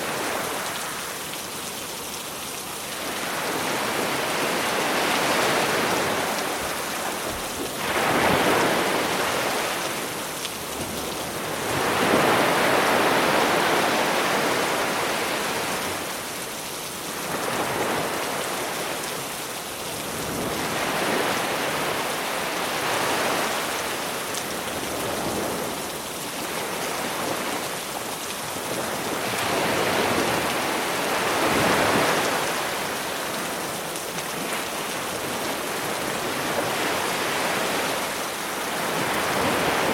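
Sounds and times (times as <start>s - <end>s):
rain hiss: 0.0s - 39.9s
sea waves washing onto beach: 0.0s - 39.9s.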